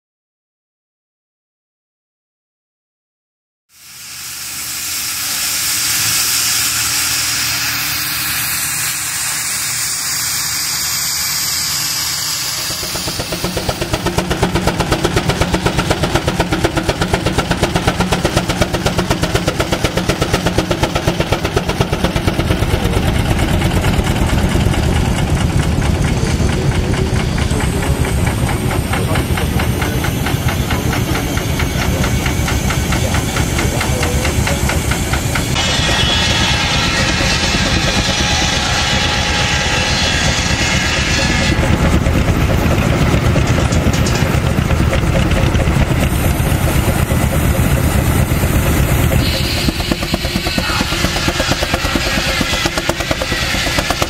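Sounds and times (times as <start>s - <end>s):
steam engine exhaust chuffing: 3.7s - 54.0s
steam hissing: 3.7s - 54.0s.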